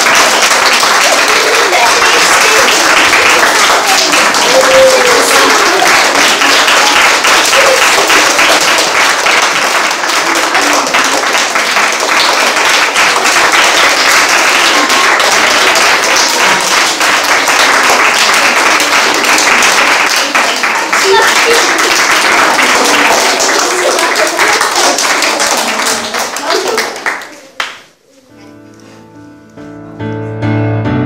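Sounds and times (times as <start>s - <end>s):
children applauding: 0.0s - 27.9s.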